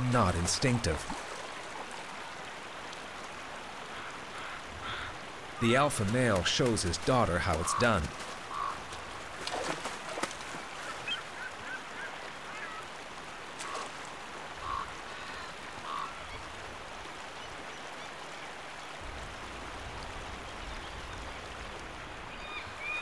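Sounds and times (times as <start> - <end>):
stream water over rocks: 0.0 - 23.0.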